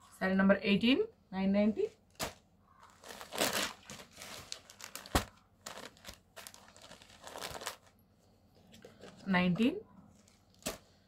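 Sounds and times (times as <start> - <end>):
cloth and paper rustling: 1.7 - 11.0.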